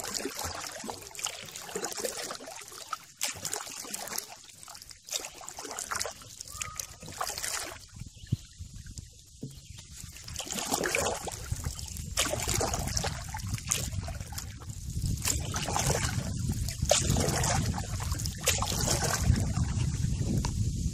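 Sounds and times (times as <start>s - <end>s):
paddle splashing in water: 0.0s - 20.9s.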